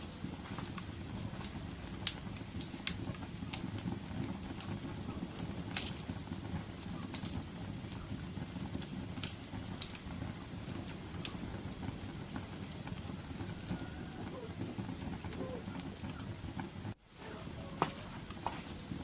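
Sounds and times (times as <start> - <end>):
fire crackles and pops: 0.0 - 19.0
wood fire roaring: 0.0 - 19.0.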